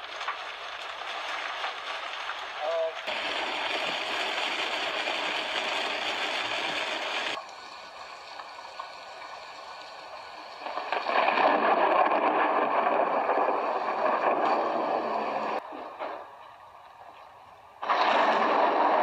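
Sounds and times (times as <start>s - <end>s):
rain: 0.0s - 19.0s
wind: 0.0s - 19.0s.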